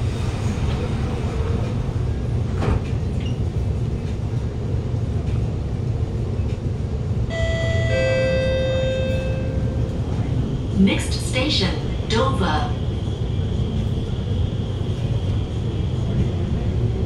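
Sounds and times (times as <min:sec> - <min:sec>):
metro car rumble: 0:00.0 - 0:17.0.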